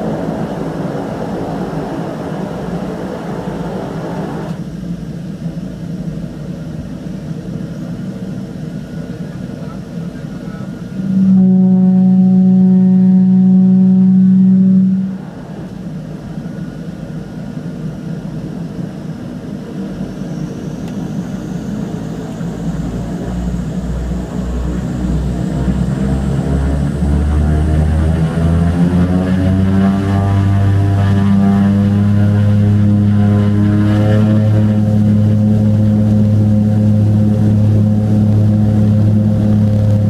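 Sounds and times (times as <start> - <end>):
turbine whine rising: 0.0 - 5.6, 10.8 - 40.0
loud steady droning tone: 0.0 - 40.0
low propeller throb: 0.0 - 40.0.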